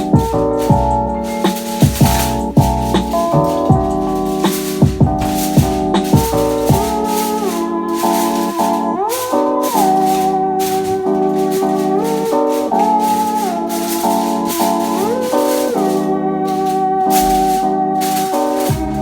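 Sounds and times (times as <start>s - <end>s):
maraca shaker rhythm: 0.0s - 19.0s.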